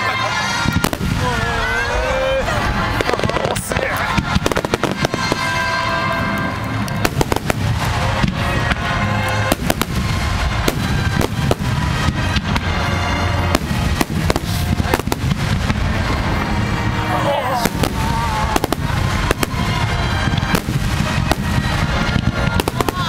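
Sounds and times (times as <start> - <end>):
fireworks cracking and booming: 0.0 - 23.0
music: 0.0 - 23.0.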